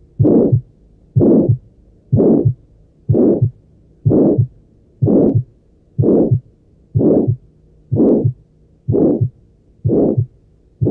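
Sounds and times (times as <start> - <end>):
heartbeat with whooshing murmur: 0.0 - 10.9.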